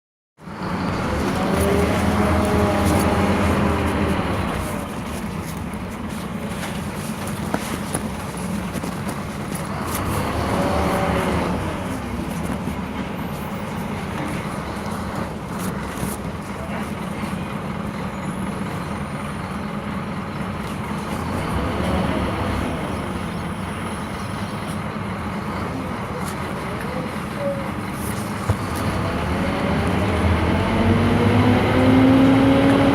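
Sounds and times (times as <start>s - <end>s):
bus diesel engine running: 0.4s - 32.9s.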